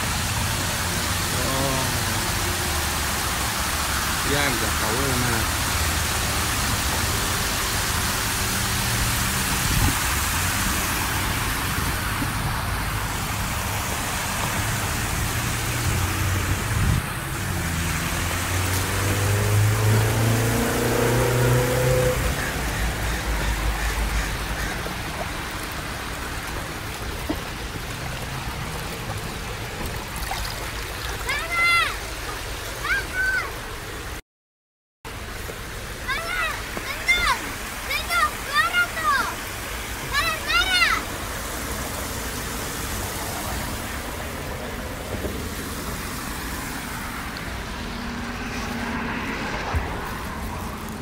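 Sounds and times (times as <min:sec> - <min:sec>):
fountain water splashing: 0:00.0 - 0:34.2, 0:35.1 - 0:51.0
road traffic: 0:00.0 - 0:34.2, 0:35.1 - 0:51.0.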